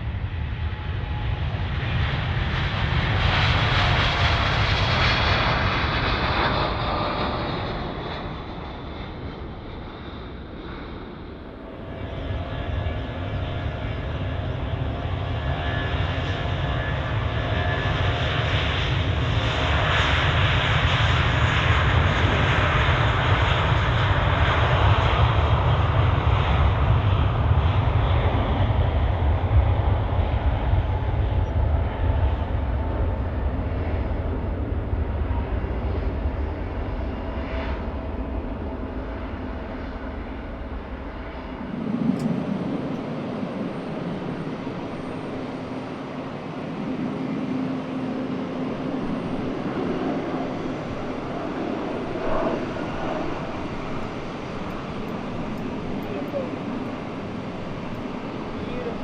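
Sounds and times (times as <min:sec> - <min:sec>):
jet airliner engines roaring: 0:00.0 - 0:59.0.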